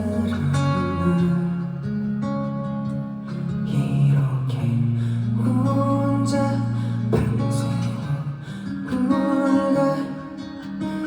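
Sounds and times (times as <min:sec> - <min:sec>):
live band with acoustic guitar: 0:00.0 - 0:11.0.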